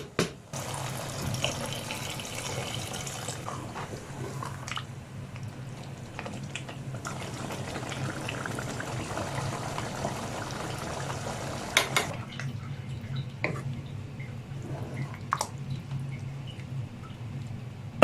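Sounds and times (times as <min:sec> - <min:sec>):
liquid bubbling in a pot: 0:00.6 - 0:17.4.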